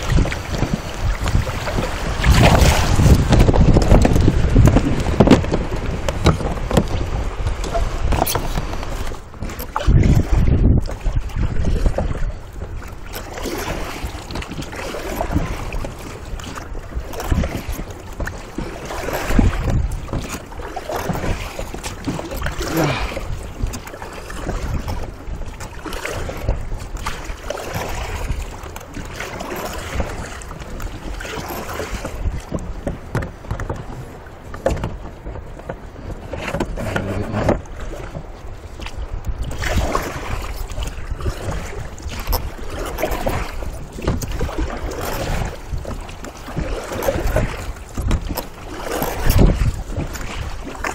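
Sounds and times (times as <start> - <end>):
oars splashing water: 0.0 - 50.9.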